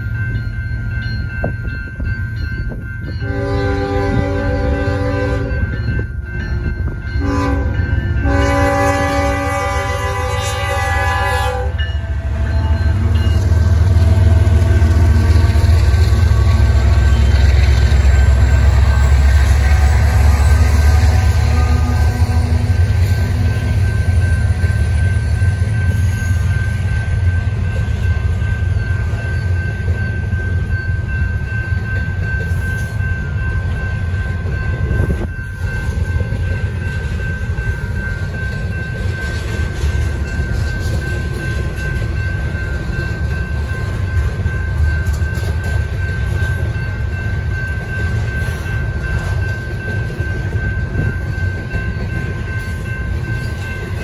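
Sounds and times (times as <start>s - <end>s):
freight train wheels rumbling: 0.0s - 54.0s
high-pitched ring: 0.0s - 54.0s.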